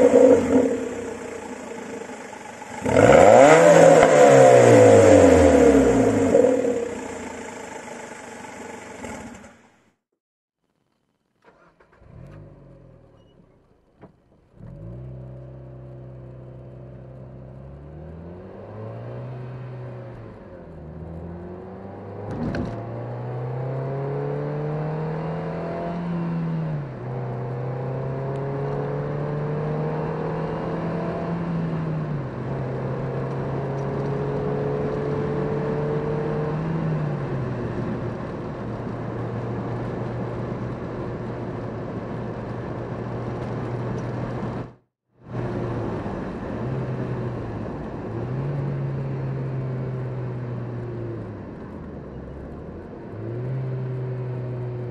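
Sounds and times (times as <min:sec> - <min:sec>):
car engine accelerating: 0:00.0 - 0:09.8, 0:14.5 - 0:54.9.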